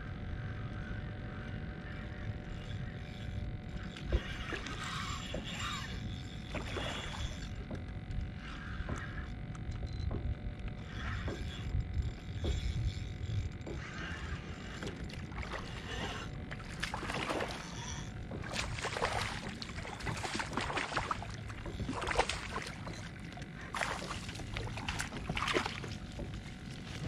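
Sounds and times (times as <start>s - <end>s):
water splashing and sloshing: 1.8s - 27.0s.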